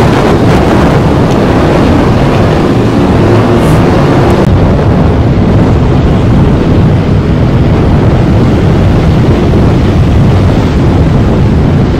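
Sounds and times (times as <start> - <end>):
propeller airplane engines rumbling: 0.0 - 11.9.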